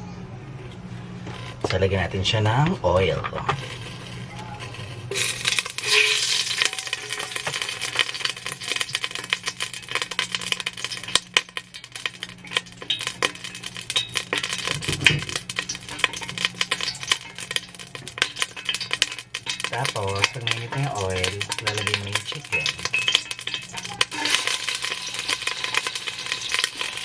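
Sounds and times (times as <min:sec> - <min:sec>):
utensil scraping in a pan: 0:02.5 - 0:27.0
oil popping: 0:03.4 - 0:27.0
oil sizzling in a frying pan: 0:03.6 - 0:27.0.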